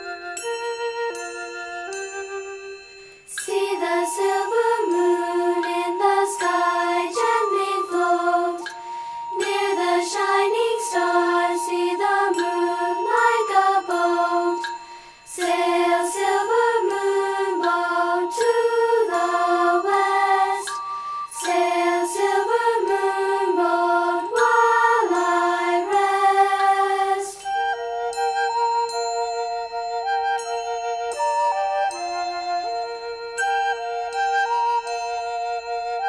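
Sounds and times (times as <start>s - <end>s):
gentle children's song music: 0.0s - 36.0s
light chiming: 0.0s - 36.0s
long held high tone: 0.0s - 36.0s.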